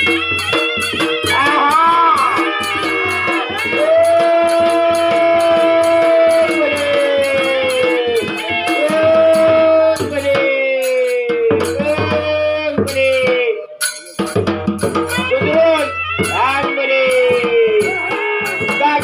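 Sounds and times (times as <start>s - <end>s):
barrel drum beat: 0.0s - 19.0s.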